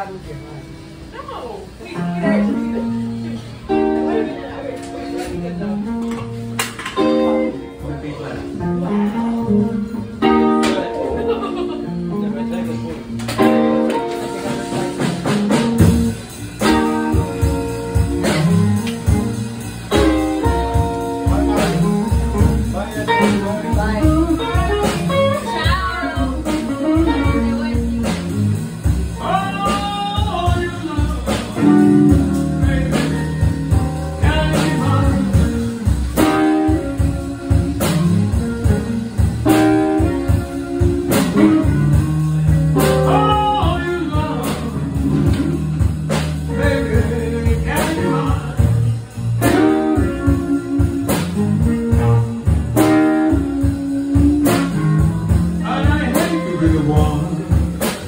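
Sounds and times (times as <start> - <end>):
electric guitar lines: 0.0 - 58.0
live blues band playing: 0.0 - 58.0.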